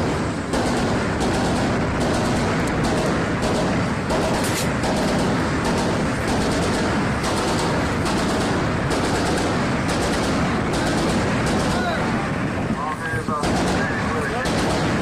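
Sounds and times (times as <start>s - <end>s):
machinery rumble: 0.0s - 15.0s.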